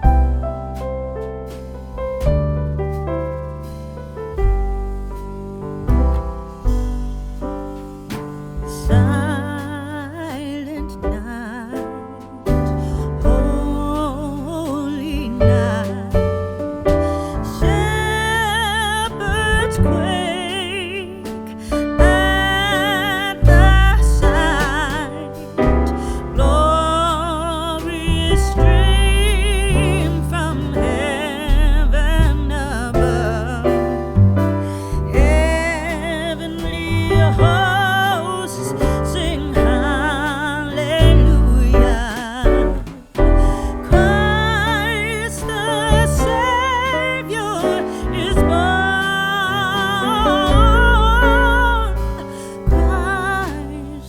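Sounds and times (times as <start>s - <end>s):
song with singer and piano: 0.0s - 54.0s.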